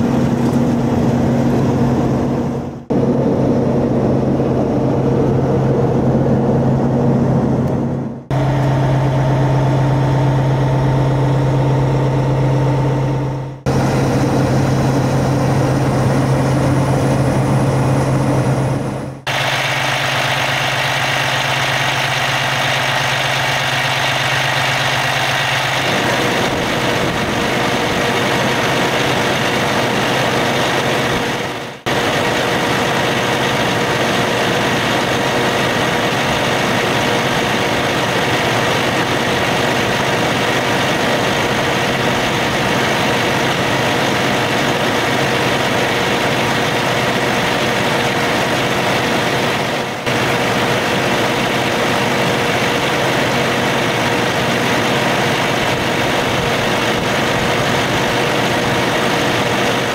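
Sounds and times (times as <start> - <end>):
diesel truck engine idling: 8.3 - 59.9.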